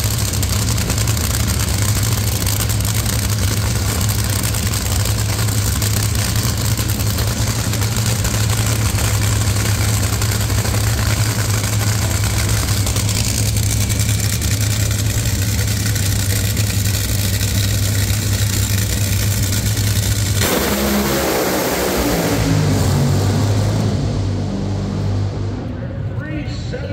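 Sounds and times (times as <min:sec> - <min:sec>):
deep drone: 0:00.0 - 0:26.9
drag racing cars roaring: 0:00.0 - 0:26.9.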